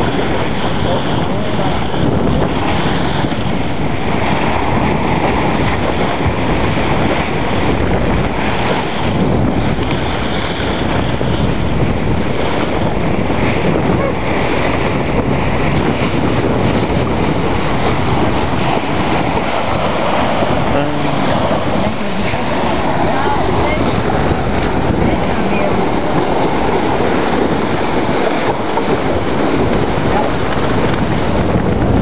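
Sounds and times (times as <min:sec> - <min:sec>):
water rushing along boat hull: 0:00.0 - 0:32.0
wind buffeting microphone: 0:00.0 - 0:32.0.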